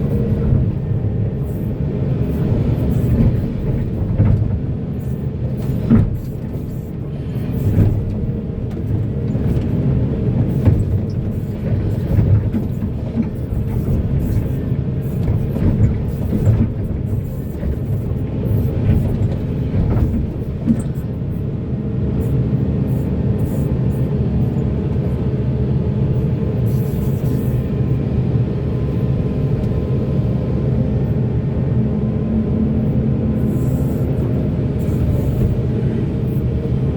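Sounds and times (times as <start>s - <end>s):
heavy diesel machinery rumbling: 0.0s - 36.9s.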